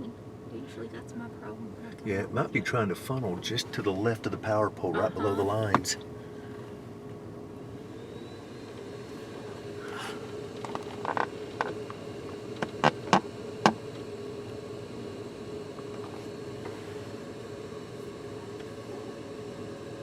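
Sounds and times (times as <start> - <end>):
vehicle cabin hum: 0.0 - 20.0.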